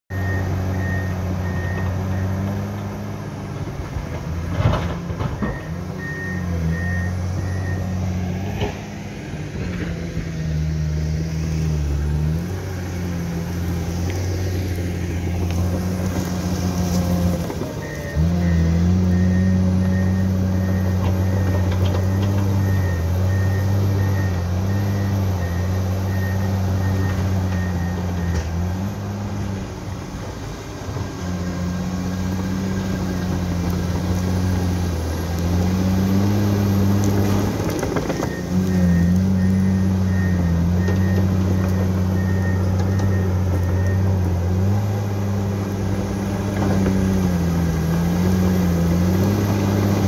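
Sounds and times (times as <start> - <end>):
bulldozer diesel engine: 0.0 - 50.0.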